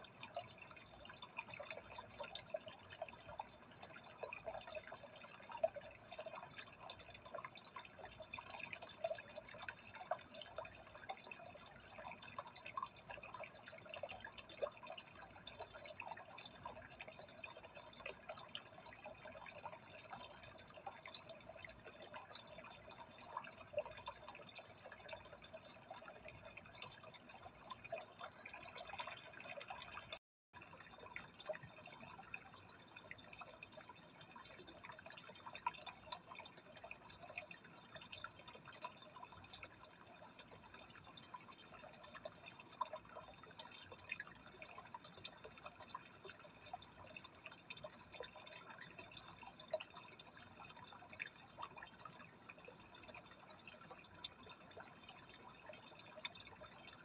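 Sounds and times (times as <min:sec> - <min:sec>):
aquarium water trickling: 0:00.0 - 0:57.0.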